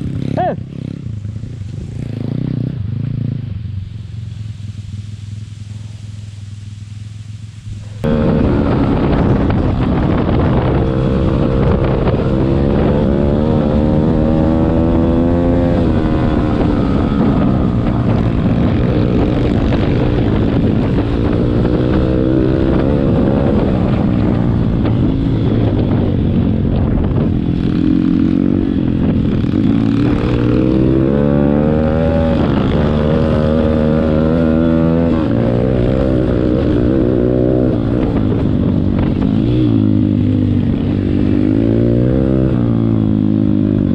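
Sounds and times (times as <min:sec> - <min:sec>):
motorbike engine revving: 0:07.8 - 0:43.9.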